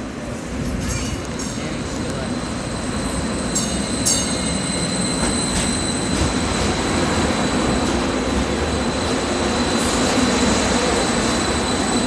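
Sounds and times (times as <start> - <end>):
high train whine: 0.0 - 12.0
train running gear rumbling: 0.2 - 12.0.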